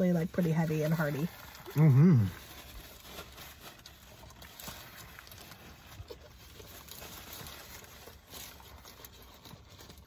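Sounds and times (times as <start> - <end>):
paper wrapper crinkling: 0.0 - 10.0
chewing crispy sandwich: 0.2 - 10.0.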